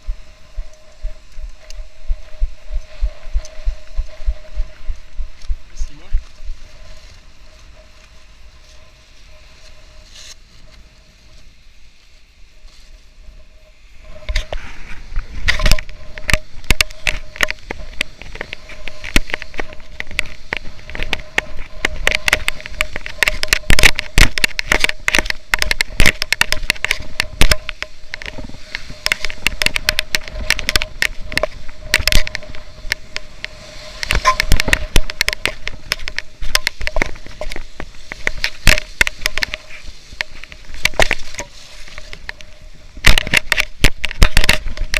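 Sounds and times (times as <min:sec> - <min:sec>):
microphone crackling and knocking: 0:00.0 - 0:10.4, 0:13.9 - 0:44.9
faint steady whine: 0:00.0 - 0:44.9.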